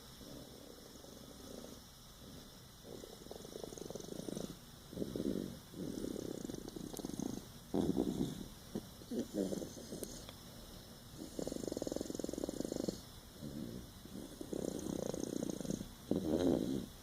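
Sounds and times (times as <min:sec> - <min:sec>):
rasping snores: 0:00.2 - 0:10.3, 0:11.2 - 0:17.0.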